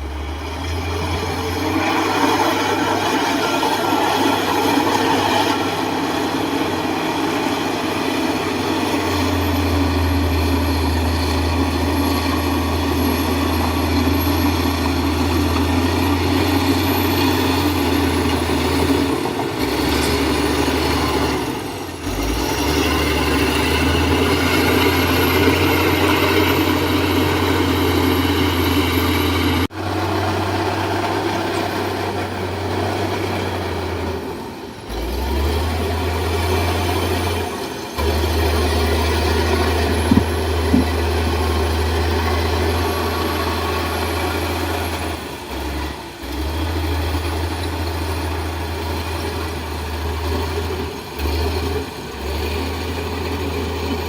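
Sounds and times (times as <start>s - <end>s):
diesel machinery engine drone: 0.0s - 54.0s.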